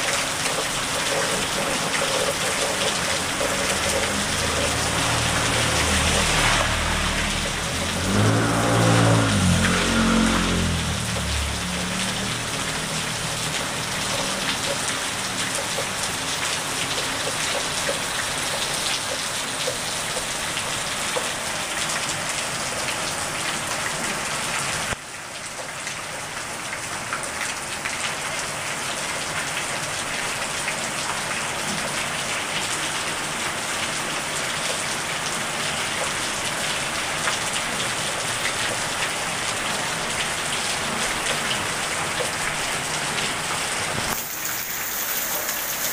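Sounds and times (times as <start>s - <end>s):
steady rain on pavement: 0.0s - 45.9s.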